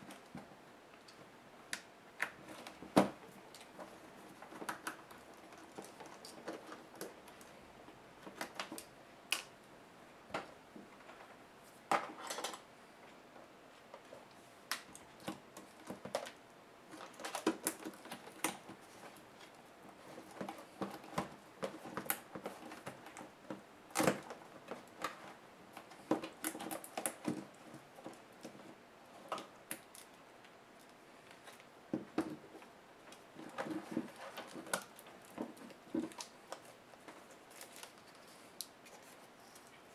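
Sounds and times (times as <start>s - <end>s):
hands handling laptop parts: 2.2s - 9.5s, 13.9s - 39.9s.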